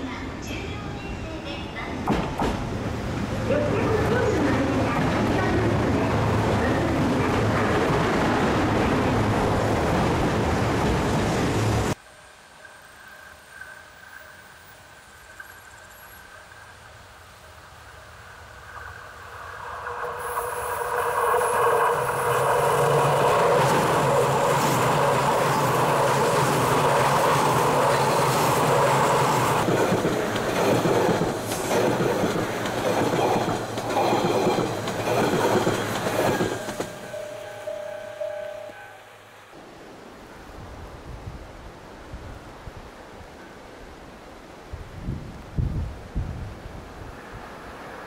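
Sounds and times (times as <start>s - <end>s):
train passing at speed: 0.0s - 45.0s, 45.8s - 48.0s.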